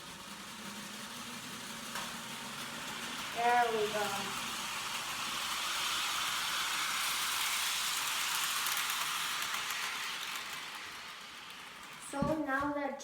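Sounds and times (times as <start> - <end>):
model train motor whirring: 0.0 - 12.6.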